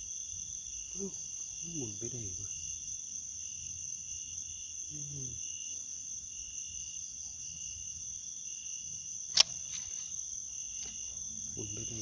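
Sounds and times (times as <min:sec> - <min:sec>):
crickets trilling: 0:00.0 - 0:12.0
lower insect chirp: 0:00.0 - 0:12.0.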